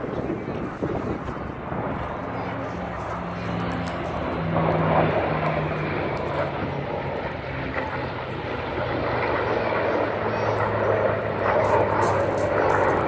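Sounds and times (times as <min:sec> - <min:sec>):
jet engines droning: 0:00.0 - 0:13.0
low propeller engine hum: 0:00.0 - 0:13.0.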